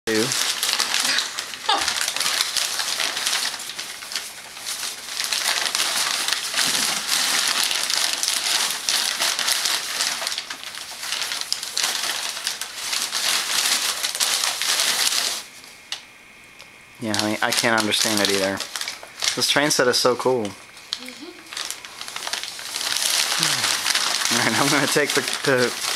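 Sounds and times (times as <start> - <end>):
paper rustling and crinkling: 0.1 - 15.8, 17.1 - 25.9.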